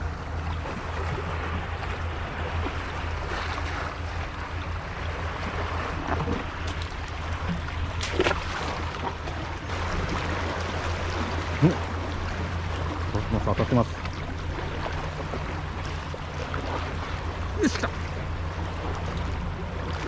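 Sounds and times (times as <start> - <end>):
sea waves washing: 0.0 - 20.0
steady low rumble: 0.0 - 20.0.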